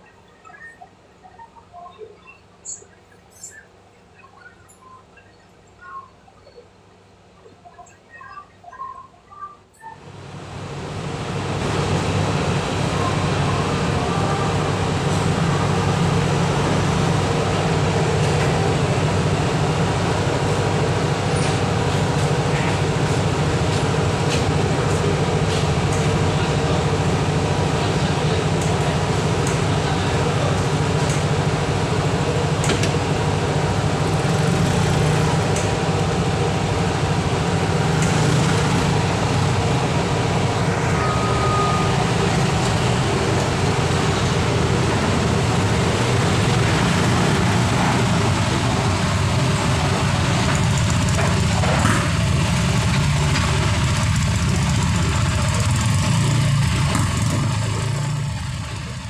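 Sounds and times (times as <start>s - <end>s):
ship engines droning: 9.5s - 59.0s
motorcycles idling: 10.0s - 41.0s, 41.8s - 59.0s.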